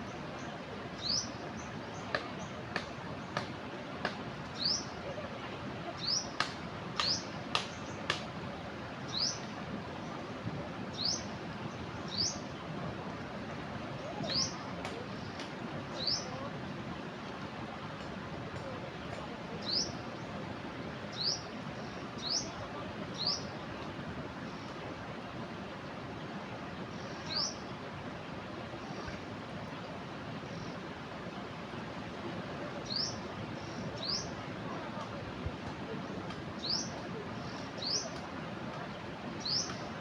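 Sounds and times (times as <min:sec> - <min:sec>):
rushing river: 0:00.0 - 0:40.0.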